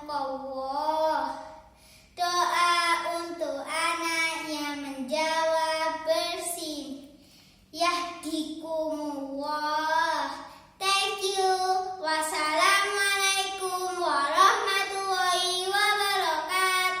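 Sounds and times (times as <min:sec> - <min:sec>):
child chanting a prayer: 0:00.0 - 0:17.0.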